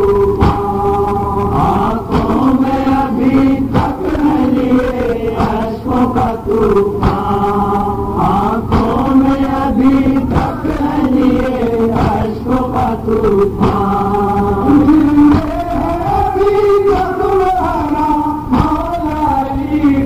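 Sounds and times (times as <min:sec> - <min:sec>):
chest-beating thumps: 0:00.0 - 0:19.3
men chanting in unison: 0:00.0 - 0:20.0.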